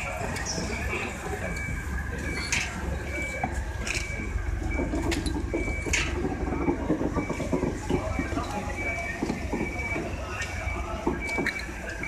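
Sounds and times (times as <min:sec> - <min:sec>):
wheels clicking over rail joints: 0:00.0 - 0:12.0.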